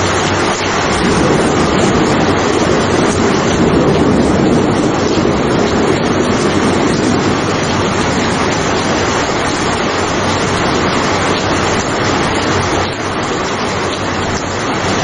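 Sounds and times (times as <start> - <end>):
steady dense rain: 0.0 - 15.0.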